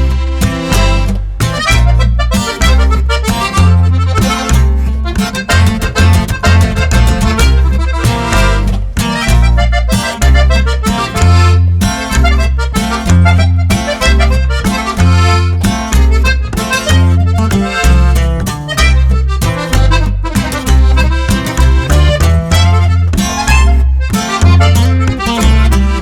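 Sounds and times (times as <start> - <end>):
pulsing bass beat: 0.0 - 26.0
upbeat music with accordion melody: 0.0 - 26.0.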